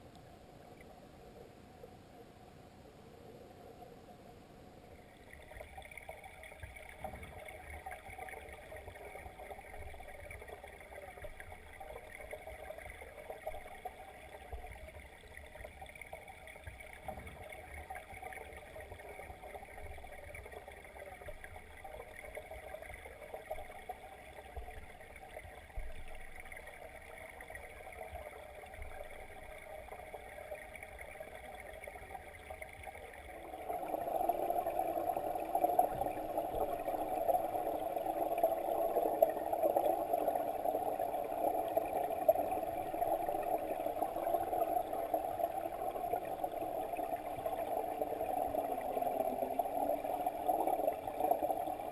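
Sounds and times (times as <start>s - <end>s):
muffled underwater stream rush: 0.0s - 51.9s.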